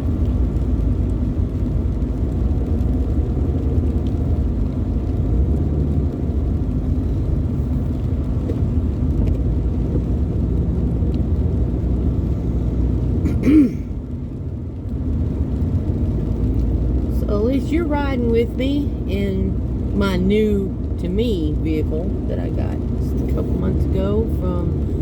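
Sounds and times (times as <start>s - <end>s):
car cabin road noise: 0.0s - 25.0s.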